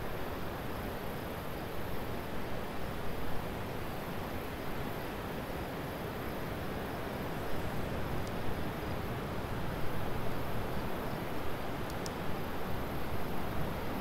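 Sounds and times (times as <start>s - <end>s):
tornado wind roaring through trees: 0.0s - 14.0s.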